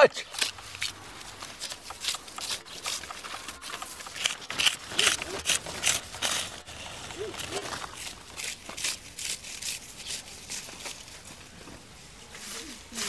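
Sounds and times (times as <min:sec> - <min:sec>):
dry reeds rustling and snapping: 0:00.2 - 0:13.0.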